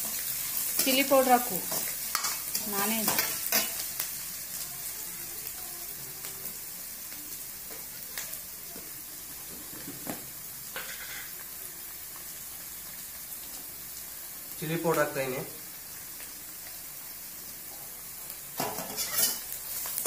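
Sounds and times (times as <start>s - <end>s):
vegetables sizzling in a wok: 0.0s - 20.0s.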